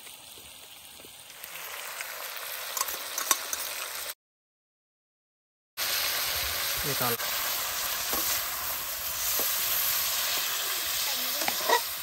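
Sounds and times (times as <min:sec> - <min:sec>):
chicken sizzling in a pan: 0:00.0 - 0:04.2, 0:05.8 - 0:12.0.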